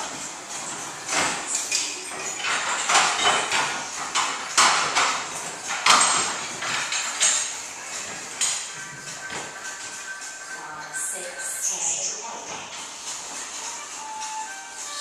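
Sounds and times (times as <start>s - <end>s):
exercise machine carriages clattering: 0.0s - 15.0s.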